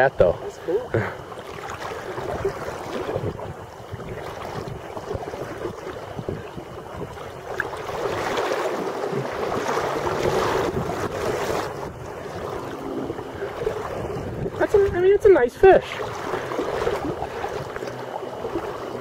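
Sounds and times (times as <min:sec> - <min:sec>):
river water flowing: 0:00.0 - 0:19.0
wind noise on microphone: 0:01.9 - 0:19.0.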